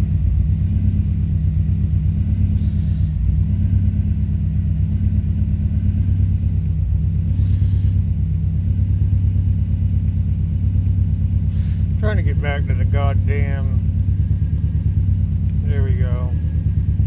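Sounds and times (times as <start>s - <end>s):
car engine idling roughly: 0.0s - 17.0s.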